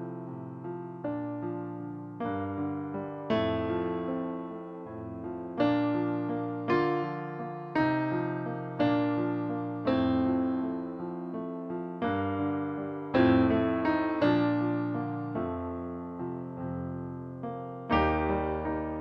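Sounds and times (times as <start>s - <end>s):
slow solo piano: 0.0s - 19.0s.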